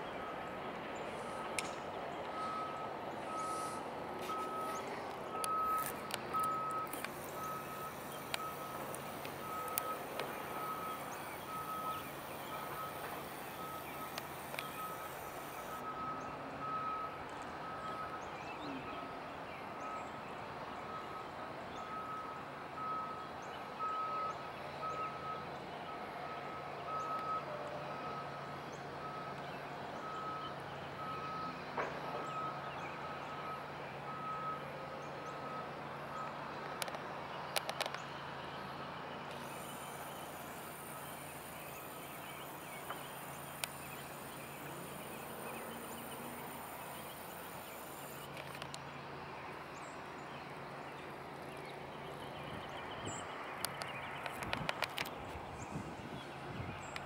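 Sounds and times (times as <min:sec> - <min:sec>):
reversing alarm beeping: 0:00.0 - 0:37.0, 0:38.6 - 0:48.4.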